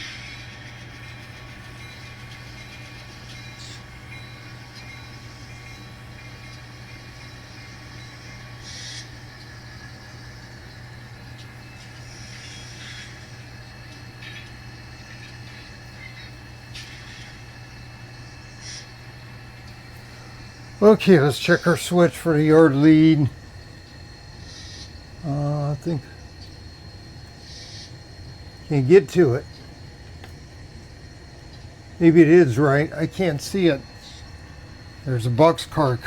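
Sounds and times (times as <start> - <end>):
model train humming: 0.0 - 36.0.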